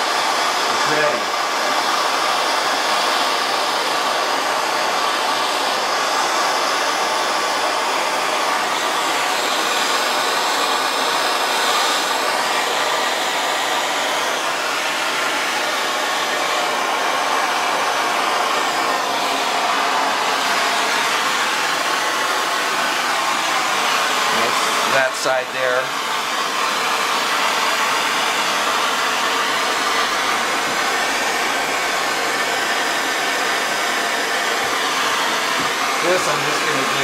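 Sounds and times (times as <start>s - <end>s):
soldering torch hissing: 0.0s - 37.0s.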